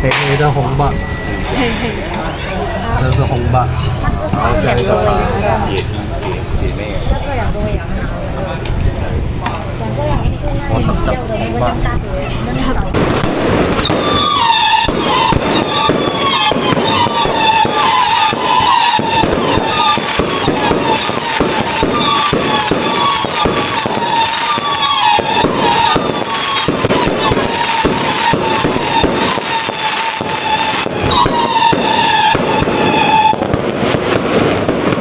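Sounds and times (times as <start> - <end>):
fireworks crackling and banging: 0.0 - 35.0.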